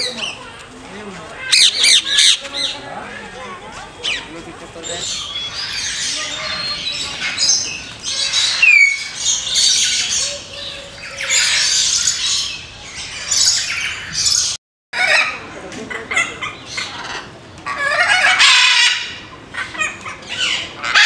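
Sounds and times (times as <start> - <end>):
birds squawking and chirping: 0.0 - 21.0.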